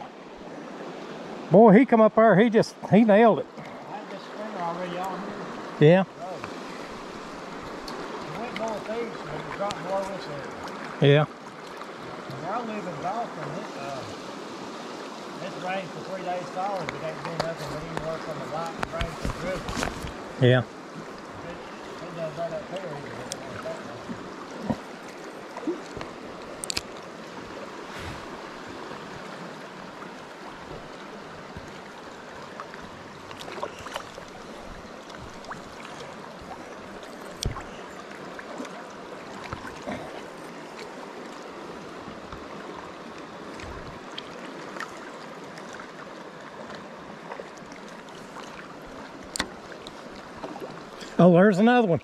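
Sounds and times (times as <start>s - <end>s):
river water rushing over rocks: 2.7s - 52.0s.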